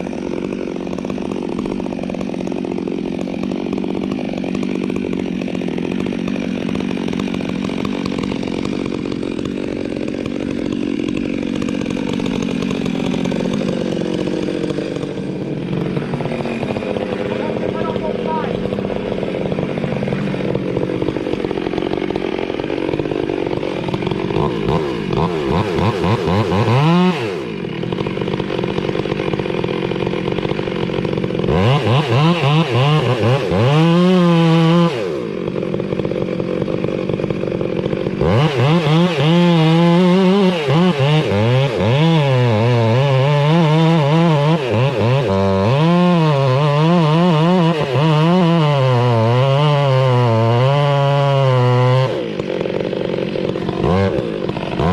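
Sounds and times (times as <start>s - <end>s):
chainsaw cutting wood: 0.0s - 54.9s
chainsaw running: 0.0s - 54.9s.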